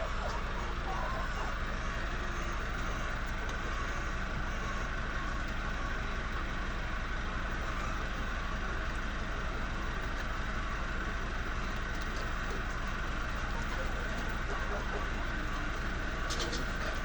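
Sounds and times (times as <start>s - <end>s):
constant whirring: 0.0s - 17.0s
motor humming: 0.0s - 17.0s.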